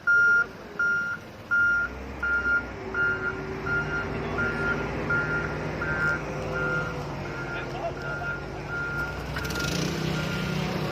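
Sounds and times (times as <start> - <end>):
reversing alarm beeping: 0.0 - 10.8
vehicle engine running: 0.0 - 10.9.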